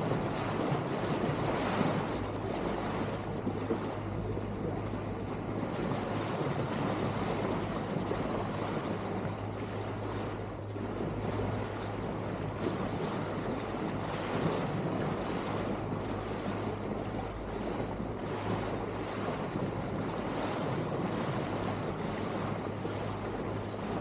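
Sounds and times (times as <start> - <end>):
boat engine low hum: 0.0 - 24.0
wind and water rushing: 0.0 - 24.0.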